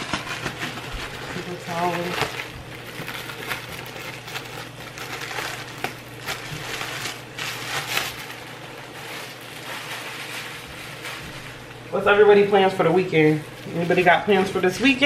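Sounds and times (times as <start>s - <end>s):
kitchen items crinkling and clicking: 0.0s - 15.0s.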